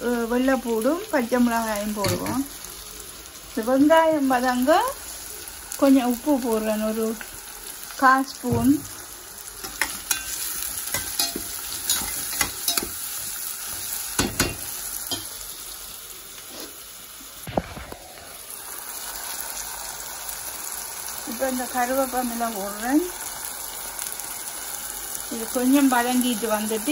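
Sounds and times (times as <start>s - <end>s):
onions sizzling in oil: 0.0s - 26.9s.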